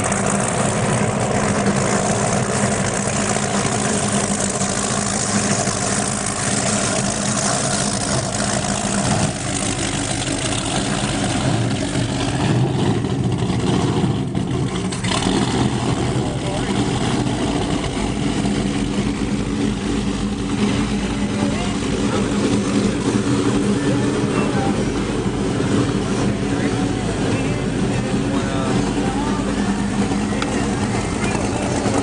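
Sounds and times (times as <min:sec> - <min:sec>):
powerboat engines humming: 0:00.0 - 0:32.0
wind and water noise: 0:00.0 - 0:32.0.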